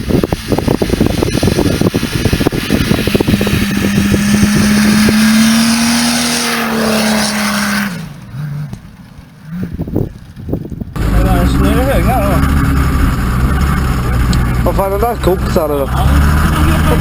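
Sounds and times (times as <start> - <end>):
diesel engine revving under load: 0.0 - 17.0
thumps and buffeting: 0.0 - 17.0.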